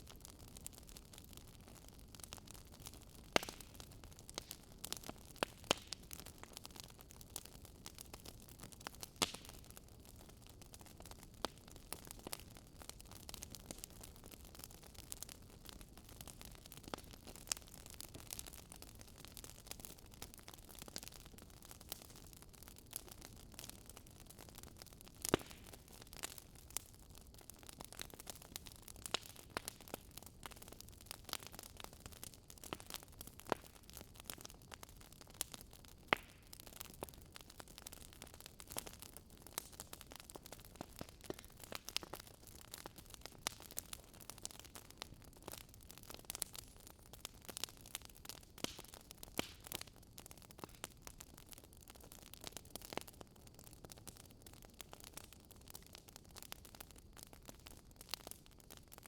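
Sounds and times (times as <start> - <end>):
crackling campfire: 0.0 - 59.0.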